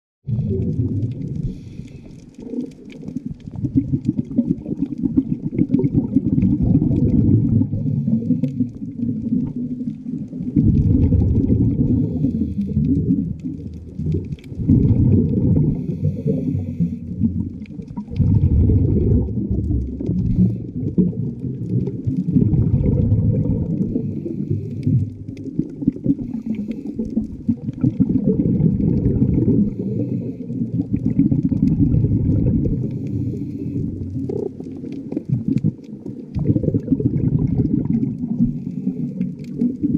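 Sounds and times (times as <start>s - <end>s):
muffled underwater rumble: 0.3s - 39.9s.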